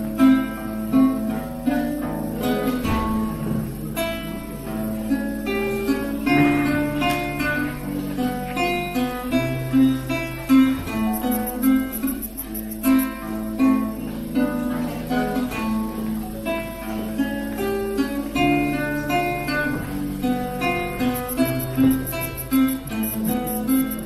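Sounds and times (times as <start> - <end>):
classical guitar solo: 0.0 - 24.0.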